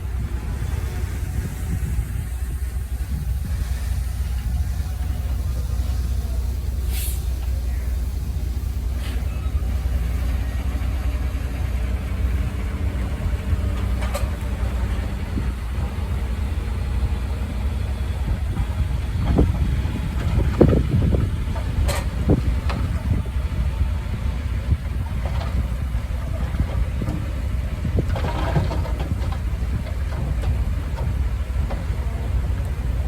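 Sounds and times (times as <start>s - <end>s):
heavy machinery engine rumble: 0.0s - 33.0s.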